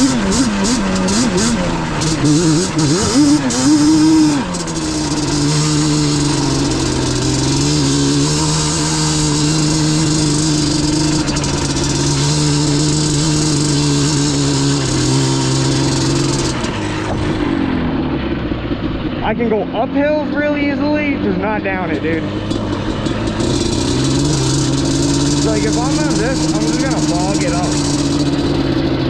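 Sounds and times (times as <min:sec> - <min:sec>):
two-stroke engine running: 0:00.0 - 0:29.0.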